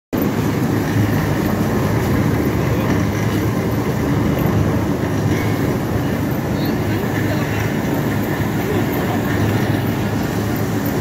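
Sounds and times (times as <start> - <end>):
washing machine running: 0.1 - 11.0.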